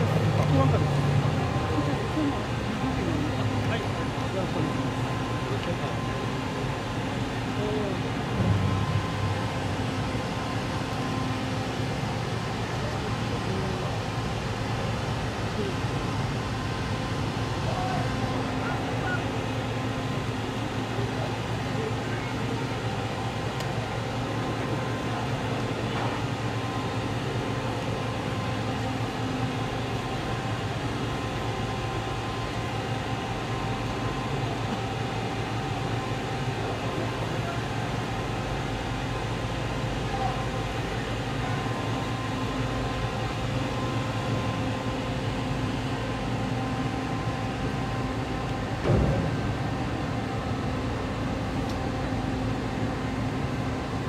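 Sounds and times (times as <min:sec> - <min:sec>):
ferry machinery humming: 0:00.0 - 0:54.0.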